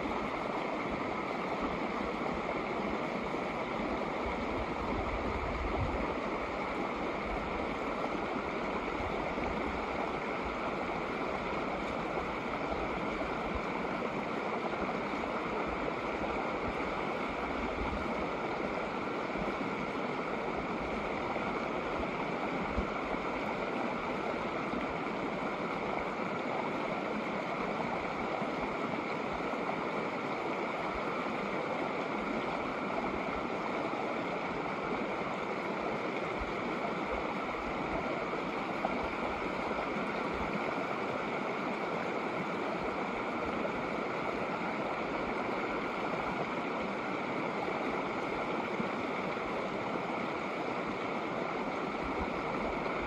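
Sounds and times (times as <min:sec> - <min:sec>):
creek flowing over rocks: 0:00.0 - 0:53.0.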